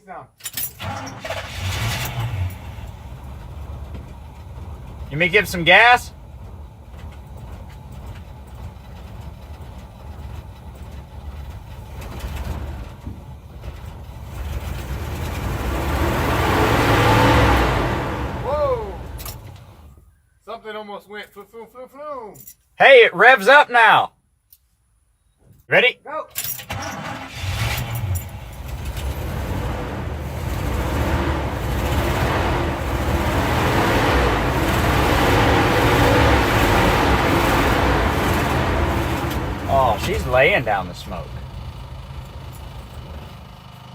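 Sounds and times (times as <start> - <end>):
car engine idling and revving: 0.6 - 20.0, 26.6 - 43.9.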